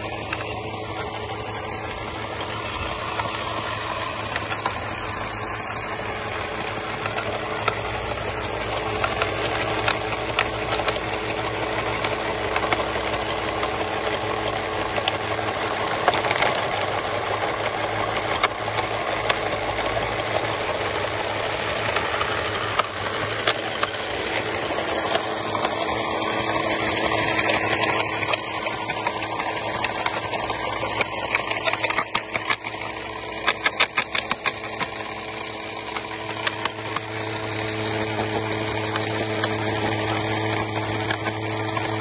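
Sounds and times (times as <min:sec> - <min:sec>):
small electric motors whirring: 0:00.0 - 0:42.0
small stones clicking and rattling: 0:00.0 - 0:42.0.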